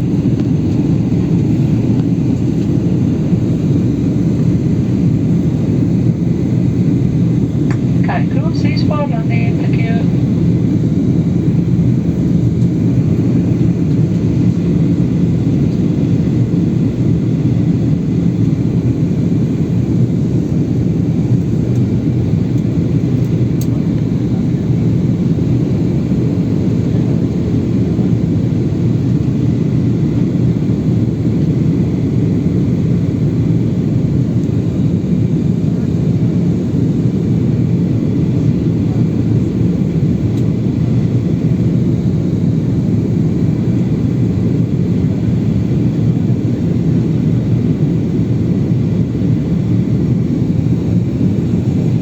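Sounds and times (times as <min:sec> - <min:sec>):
airliner engine drone in cabin: 0:00.0 - 0:52.0.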